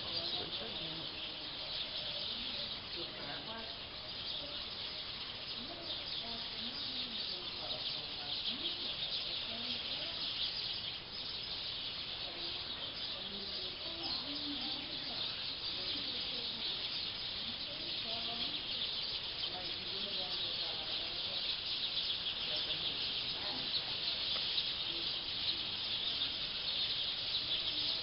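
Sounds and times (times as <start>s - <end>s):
flock of birds chirping: 0.0s - 28.0s.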